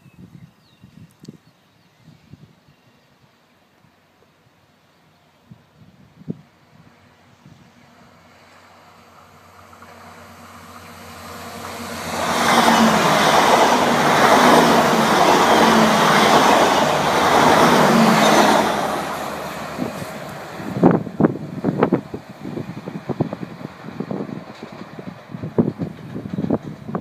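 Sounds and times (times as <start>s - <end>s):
passenger train passing at speed: 1.7s - 27.0s.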